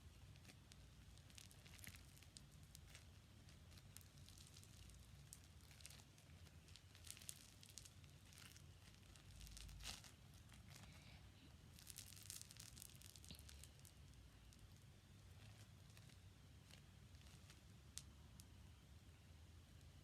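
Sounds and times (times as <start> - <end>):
foam slime crackling and popping: 0.0 - 18.7.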